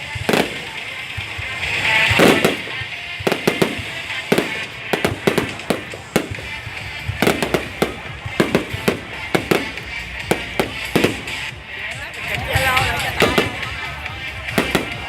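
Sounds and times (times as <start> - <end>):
firework bangs and crackling pops: 0.0 - 11.6, 12.5 - 15.0.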